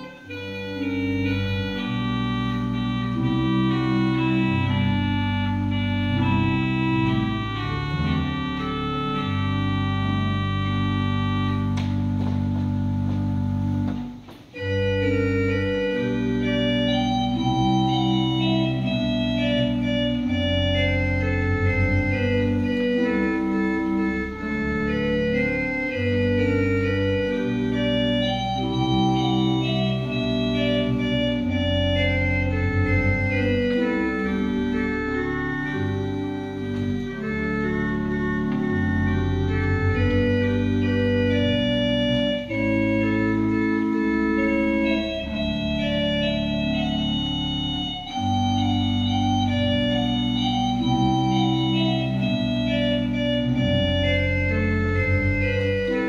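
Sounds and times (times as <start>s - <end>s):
organ playing a slow hymn: 0.0s - 56.0s.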